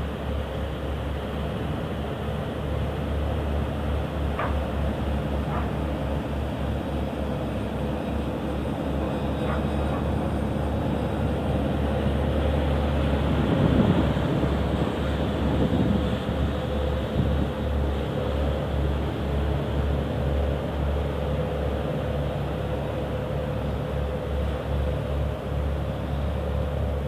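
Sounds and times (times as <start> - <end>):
churning wake water: 0.0 - 27.0
diesel engine droning: 0.0 - 27.0.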